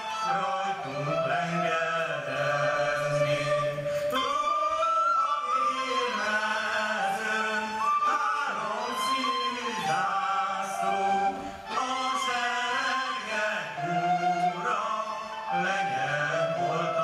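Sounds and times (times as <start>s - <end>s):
group of voices singing: 0.0s - 4.8s, 5.4s - 17.0s.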